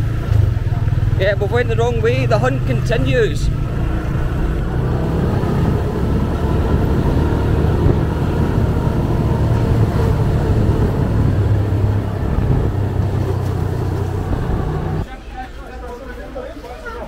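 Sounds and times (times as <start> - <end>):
motorcycle engine running: 0.0 - 15.0
road noise: 0.0 - 17.0.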